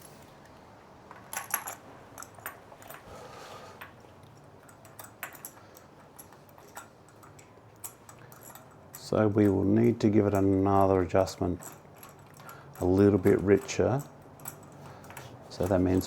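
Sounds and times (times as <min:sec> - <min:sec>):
small metal tools clinking: 0:01.1 - 0:03.1, 0:03.8 - 0:16.0.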